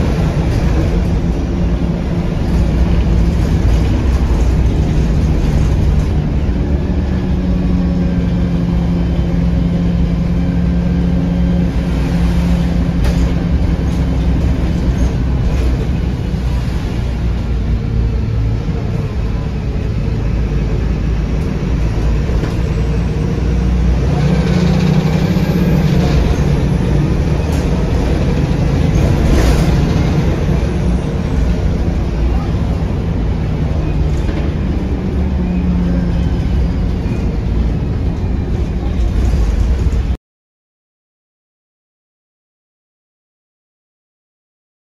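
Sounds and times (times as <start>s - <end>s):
bus engine drone: 0.0s - 40.2s.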